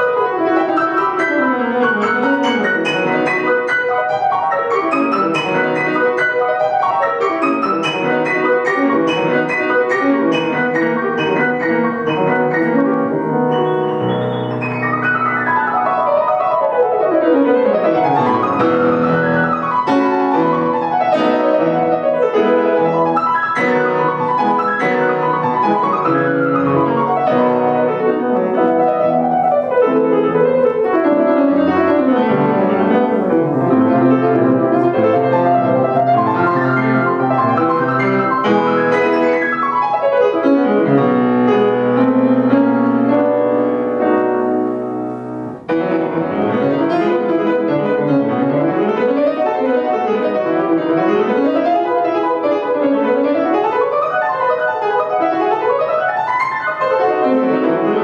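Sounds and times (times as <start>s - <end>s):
classical piano piece: 0.0s - 58.0s.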